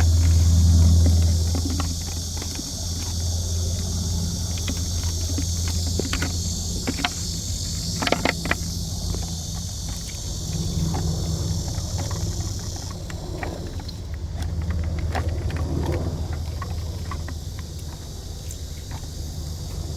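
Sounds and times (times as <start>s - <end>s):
low engine hum: 0.0s - 19.9s.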